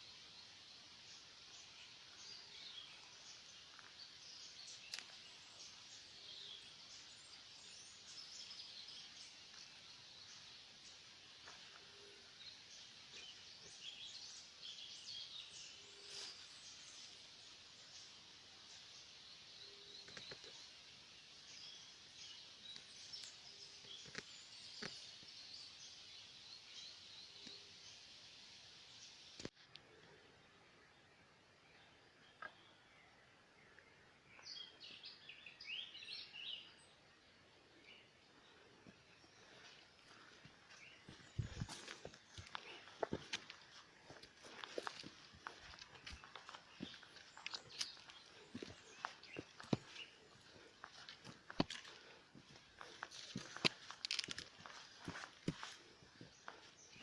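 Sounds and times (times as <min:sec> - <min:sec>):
steady background hiss: 0:00.0 - 0:51.4.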